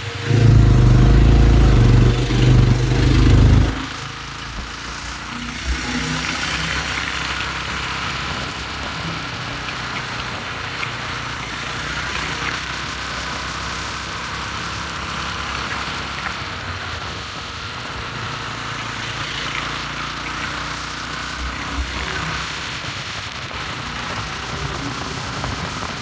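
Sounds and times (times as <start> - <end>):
motorcycle engine: 0.0 - 26.0
road noise: 0.0 - 26.0.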